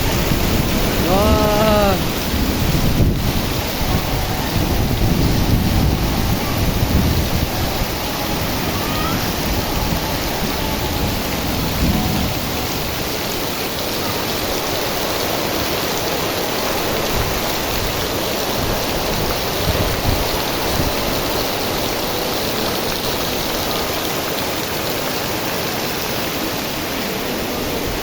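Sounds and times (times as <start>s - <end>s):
low rumbles of wind: 0.0s - 28.0s
torrential rain: 0.0s - 28.0s.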